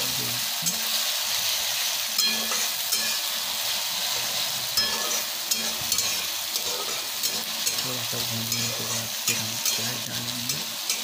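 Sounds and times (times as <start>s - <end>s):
paste sizzling in hot oil: 0.0s - 11.0s
spatula scraping a pan: 0.7s - 11.0s.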